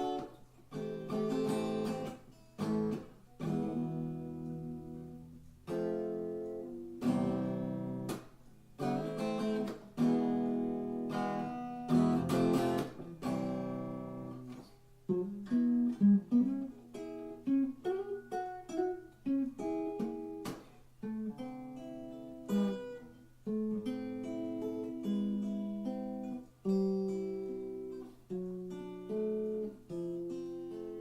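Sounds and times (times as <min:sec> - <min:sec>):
out of tune acoustic guitar: 0:00.0 - 0:31.0.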